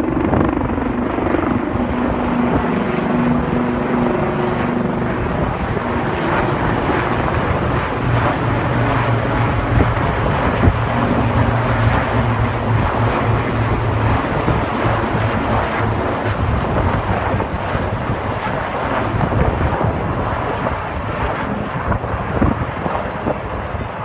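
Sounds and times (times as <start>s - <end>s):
helicopters flying past: 0.0s - 24.0s.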